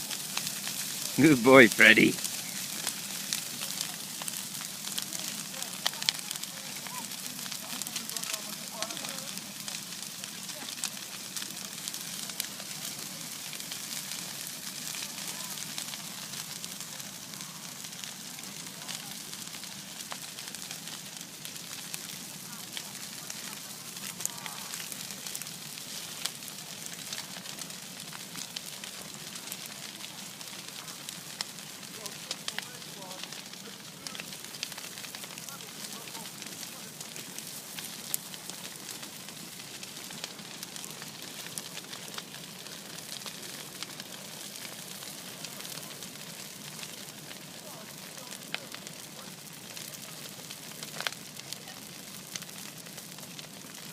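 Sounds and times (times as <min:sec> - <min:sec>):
bonfire crackling and hissing: 0:00.0 - 0:53.9.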